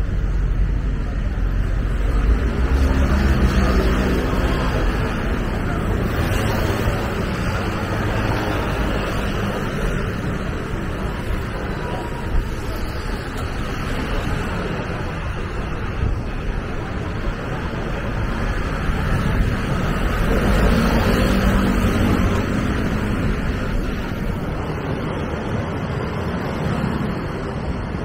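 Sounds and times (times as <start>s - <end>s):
city street traffic: 0.0s - 28.0s
vehicle engine hum: 0.0s - 28.0s.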